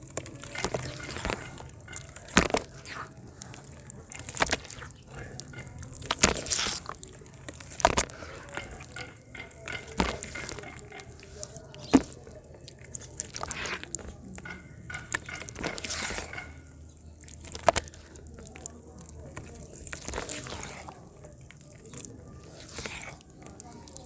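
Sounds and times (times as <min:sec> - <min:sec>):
wet mud squelching and splatting: 0:00.0 - 0:24.0.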